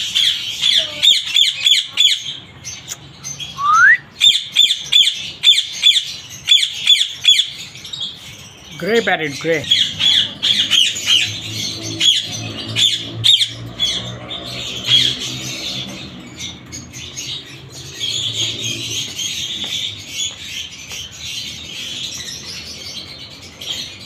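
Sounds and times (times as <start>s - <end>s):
parakeets chattering and chirping: 0.0s - 24.0s
parakeets squawking: 0.0s - 24.0s.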